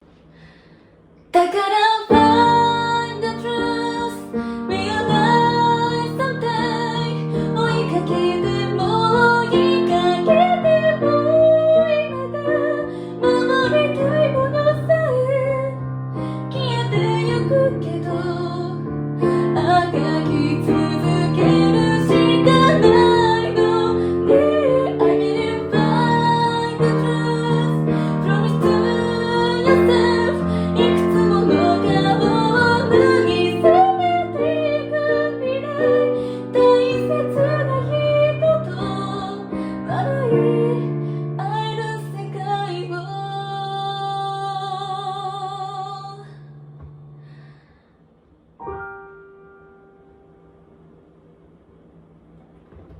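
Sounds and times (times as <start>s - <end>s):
woman singing: 1.3s - 46.6s
piano chords: 1.4s - 47.8s, 48.4s - 52.9s.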